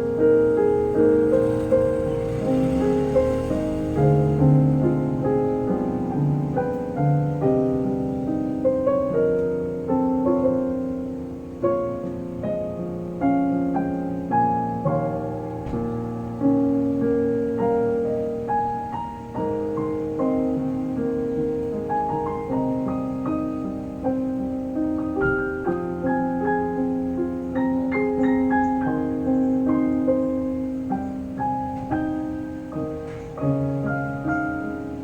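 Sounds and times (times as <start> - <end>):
gentle solo piano piece: 0.0 - 35.0.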